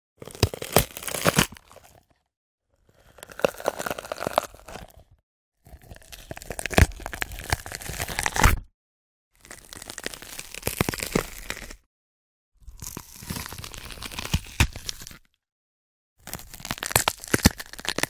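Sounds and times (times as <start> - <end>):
wet tearing and crunching chewing: 0.2 - 8.7, 9.4 - 11.9, 12.6 - 15.3, 16.2 - 18.0.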